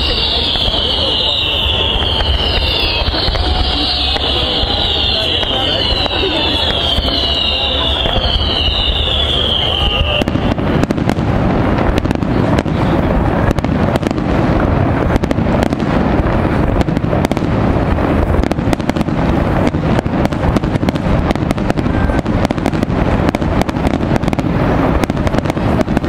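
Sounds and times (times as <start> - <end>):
fireworks bangs and crackle: 0.0 - 26.0.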